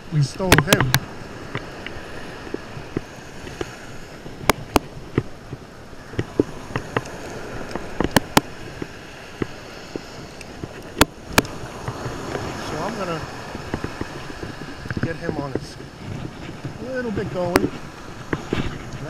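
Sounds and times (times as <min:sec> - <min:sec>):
surf and wind hiss: 0:00.0 - 0:19.0.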